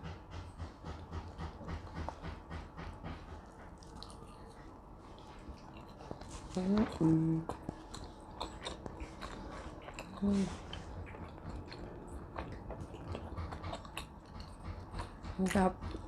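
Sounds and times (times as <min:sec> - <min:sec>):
person chewing food: 0:00.4 - 0:16.0.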